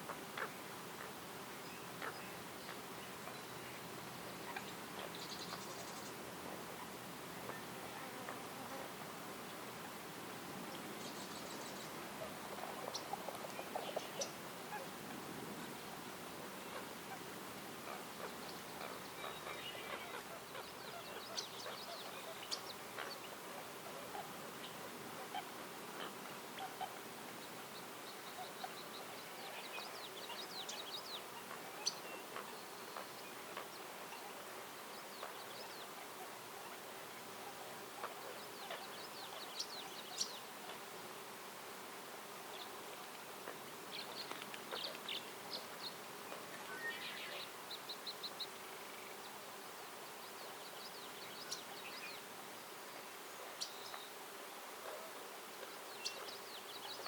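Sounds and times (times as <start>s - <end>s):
background hiss: 0.0s - 57.0s
songbirds chirping and trilling: 0.0s - 57.0s.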